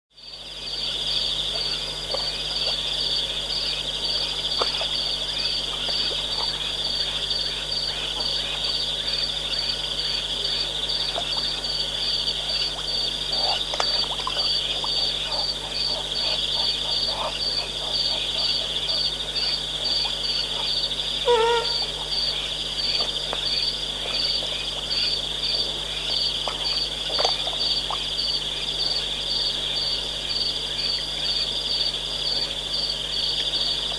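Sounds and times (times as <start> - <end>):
crickets trilling: 0.2 - 33.9
insect chirping: 0.2 - 33.9.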